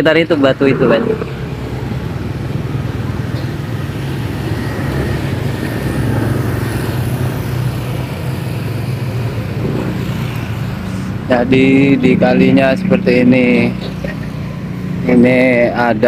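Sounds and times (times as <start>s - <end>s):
engine hum: 0.0s - 16.0s
road traffic rumble: 0.0s - 16.0s.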